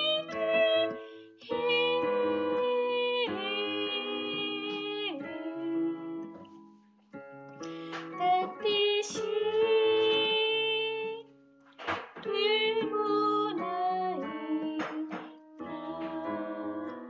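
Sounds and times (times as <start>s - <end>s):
person singing a hymn: 0.0s - 6.6s, 7.7s - 11.2s, 11.8s - 17.0s
digital piano chords: 0.0s - 17.0s.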